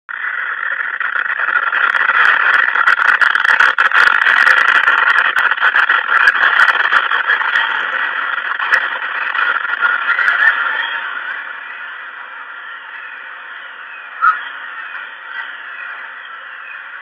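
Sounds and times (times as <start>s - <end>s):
crackles and clicks: 0.1s - 17.0s
loud microphone hiss: 0.1s - 17.0s.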